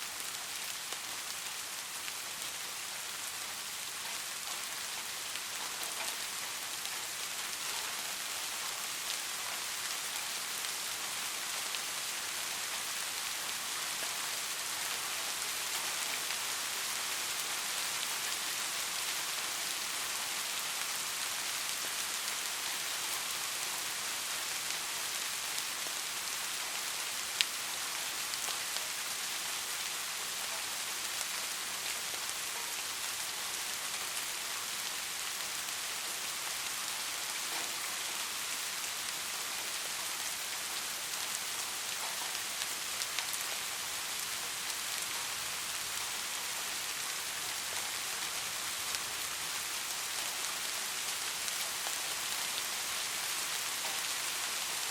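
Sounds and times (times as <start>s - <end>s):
rain falling on a street: 0.0s - 54.9s.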